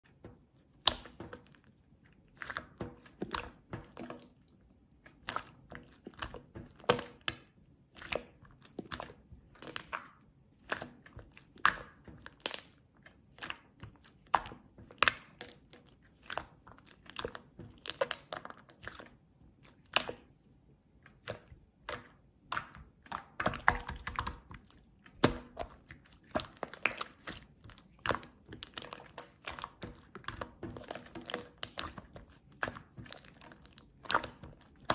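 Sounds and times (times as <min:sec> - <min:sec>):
slime squishing with sticky pops: 0:00.0 - 0:34.9.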